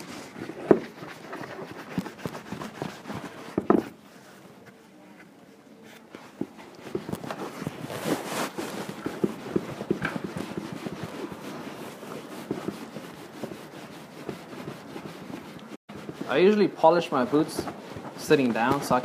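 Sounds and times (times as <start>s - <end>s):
cloth rag buffing a boot: 0.0s - 4.8s, 5.8s - 19.0s.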